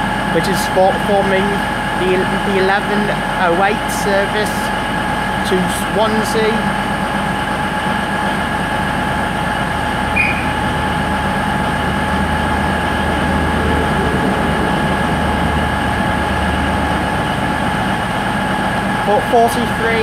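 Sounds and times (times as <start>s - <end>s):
diesel train engine whine and rumble: 0.0s - 20.0s.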